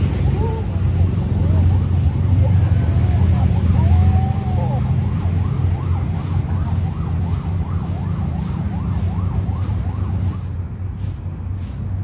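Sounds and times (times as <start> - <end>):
steady low rumble: 0.0 - 12.0
distant emergency siren: 0.4 - 10.6.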